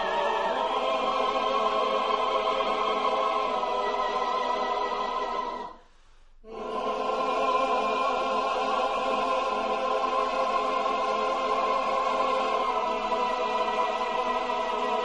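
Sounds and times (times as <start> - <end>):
choir singing held chords: 0.0 - 5.8, 6.4 - 15.0.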